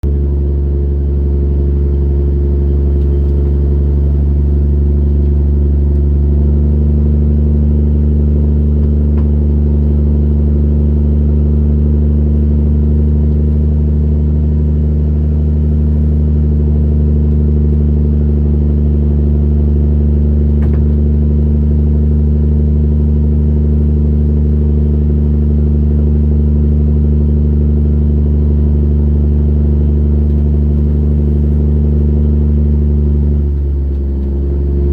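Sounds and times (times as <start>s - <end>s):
boat diesel engine droning: 0.0s - 34.9s.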